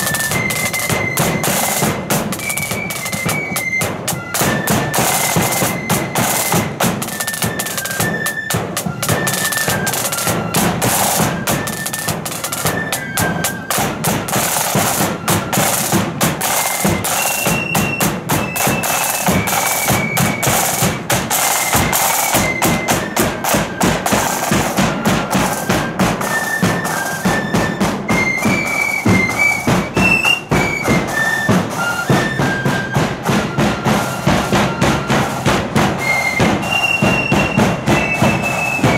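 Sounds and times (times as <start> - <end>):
flutes playing melody: 0.0 - 38.9
snare drumming: 0.0 - 38.9.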